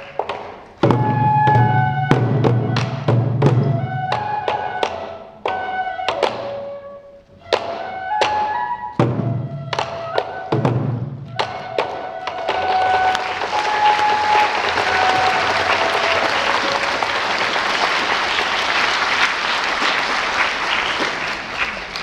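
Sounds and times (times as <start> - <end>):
taiko drums: 0.0 - 6.8, 7.4 - 19.4
bamboo flute holding notes: 0.0 - 17.6.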